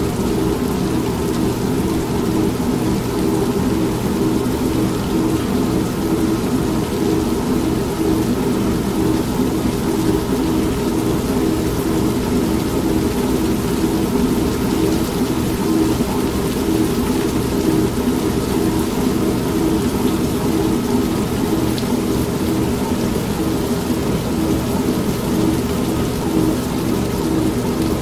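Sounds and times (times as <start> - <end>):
steady rain: 0.0 - 28.0
washing machine running: 0.0 - 28.0.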